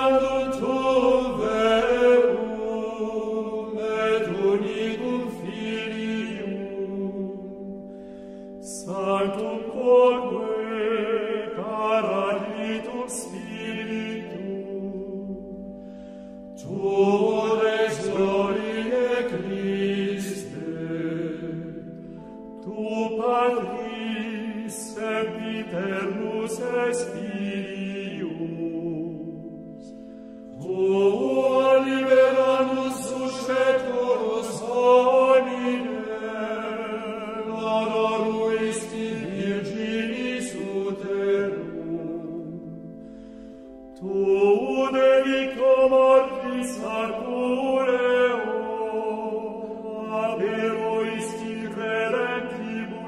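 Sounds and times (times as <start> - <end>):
voices singing a slow chant: 0.0 - 15.7, 16.6 - 53.0.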